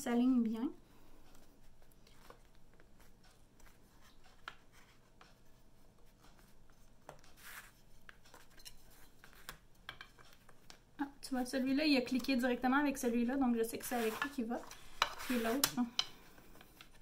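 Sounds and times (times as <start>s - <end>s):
soft rustle: 0.1s - 17.0s.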